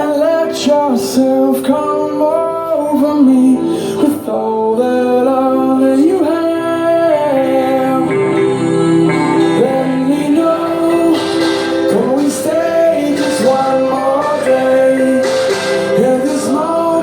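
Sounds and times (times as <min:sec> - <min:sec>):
guitar accompaniment: 0:00.0 - 0:17.0
person singing: 0:00.0 - 0:17.0.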